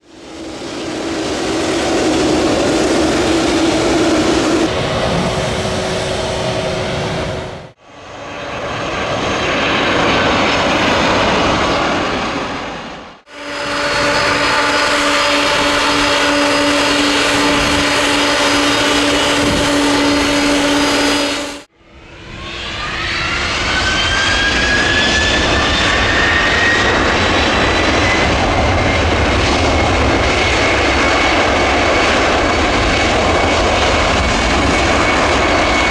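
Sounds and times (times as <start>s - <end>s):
jet engines spooling up: 0.0s - 35.9s
jet engines whining: 0.0s - 35.9s.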